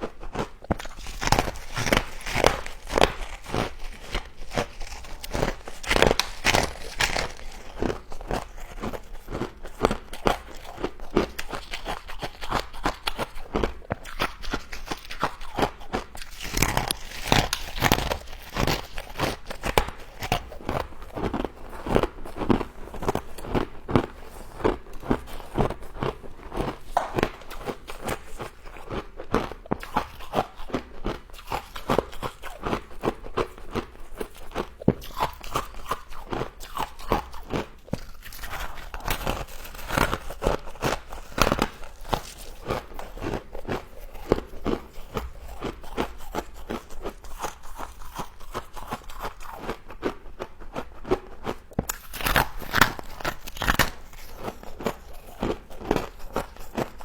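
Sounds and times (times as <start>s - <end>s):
frost being chewed: 0.0s - 57.0s.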